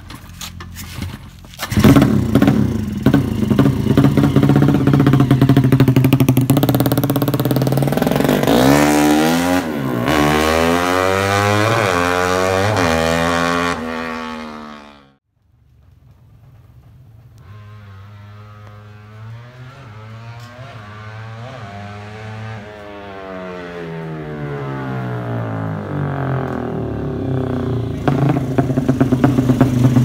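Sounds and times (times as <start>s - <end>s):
motorcycle engine starting and revving: 0.0s - 15.2s, 16.6s - 30.0s.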